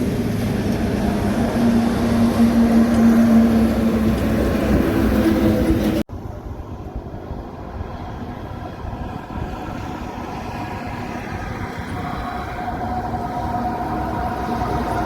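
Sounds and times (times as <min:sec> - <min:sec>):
loud truck engine: 0:00.0 - 0:15.0
rumble of passing vehicles: 0:00.0 - 0:15.0.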